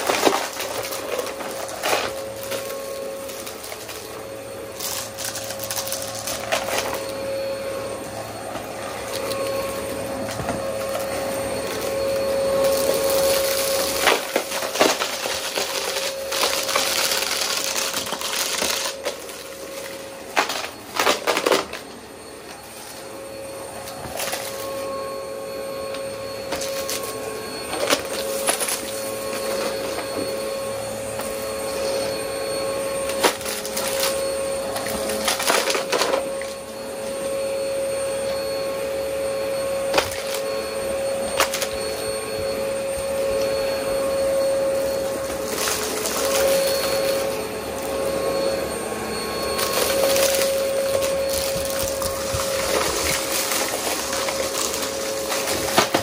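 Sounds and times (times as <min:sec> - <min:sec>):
rustling floor noise: 0:00.0 - 0:56.0
vacuum cleaner motor whine: 0:00.0 - 0:56.0.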